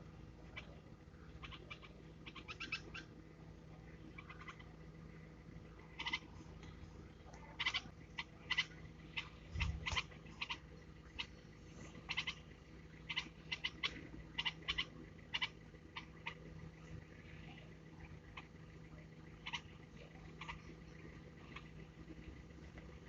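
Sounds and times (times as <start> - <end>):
hatchlings chirping: 0.0 - 23.0.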